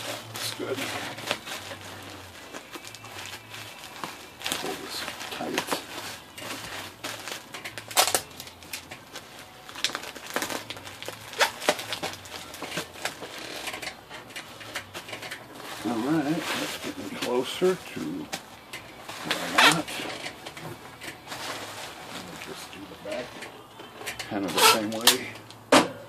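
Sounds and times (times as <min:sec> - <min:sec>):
bubble wrap crinkling and crackling: 0:00.0 - 0:25.6.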